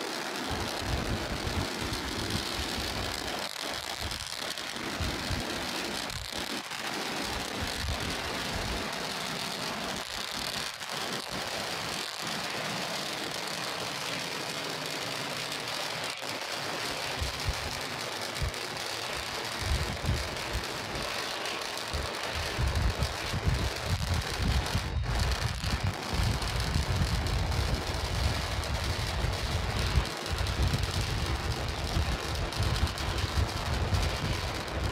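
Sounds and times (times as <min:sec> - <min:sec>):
rocket engines rumbling: 0:00.0 - 0:34.9.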